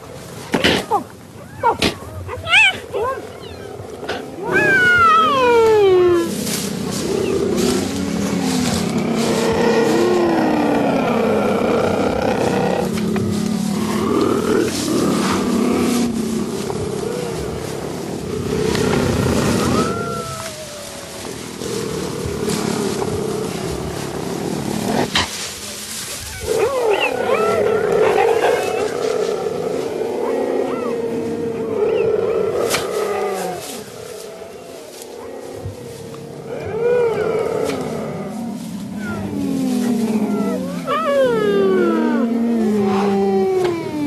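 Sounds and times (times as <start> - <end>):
big cat moaning calls: 0.8 - 25.1, 26.3 - 44.0
big cats growling and snarling: 6.4 - 44.0.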